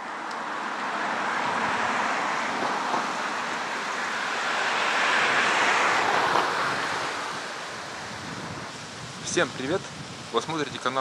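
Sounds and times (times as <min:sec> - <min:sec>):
passing road traffic: 0:00.0 - 0:11.0
wind hiss: 0:00.0 - 0:11.0.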